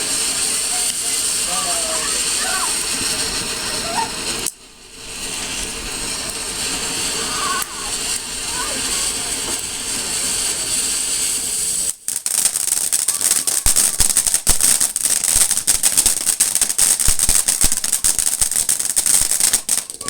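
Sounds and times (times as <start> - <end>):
firework fountain hissing: 0.0 - 20.0
firework rapid crackle: 0.0 - 20.0.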